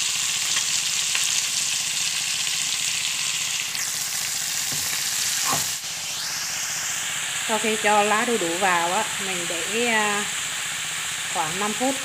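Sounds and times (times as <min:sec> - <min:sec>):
stir-frying sizzle in wok: 0:00.0 - 0:12.0.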